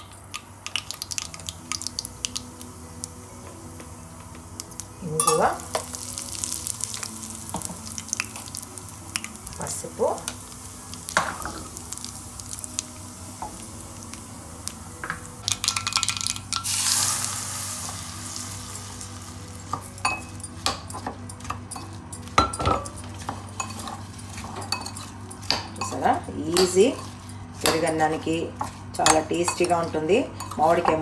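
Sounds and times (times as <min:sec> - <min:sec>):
oil sizzling in pan: 0:00.0 - 0:27.7
loud sizzling hiss: 0:00.0 - 0:29.1.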